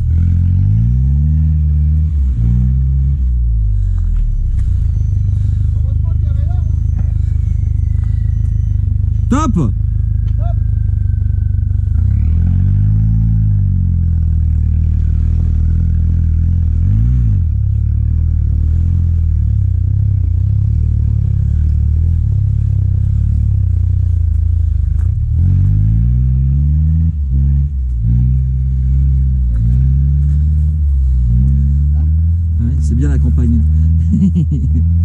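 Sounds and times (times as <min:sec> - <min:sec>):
off-road engine revving under load: 0:00.0 - 0:35.0.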